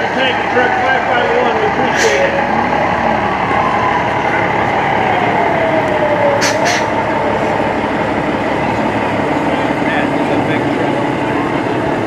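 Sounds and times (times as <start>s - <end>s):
tanker truck driving past: 0.0s - 12.0s.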